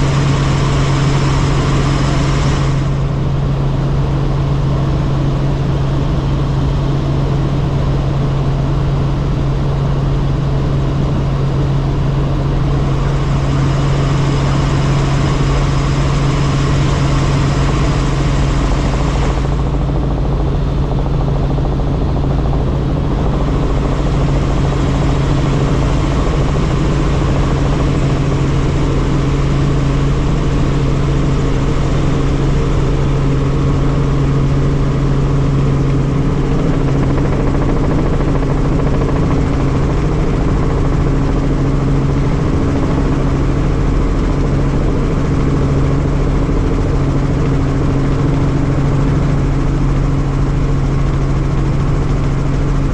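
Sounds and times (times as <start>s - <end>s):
helicopter rotor and turbine drone: 0.0s - 52.9s.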